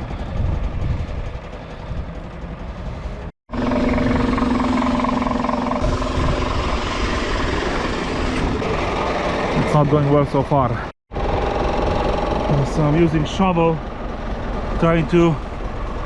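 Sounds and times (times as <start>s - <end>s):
lorry diesel engine running: 0.0s - 16.0s.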